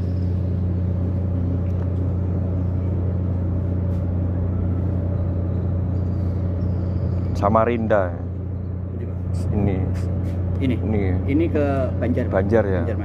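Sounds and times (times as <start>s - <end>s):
ship engines humming: 0.0s - 13.0s.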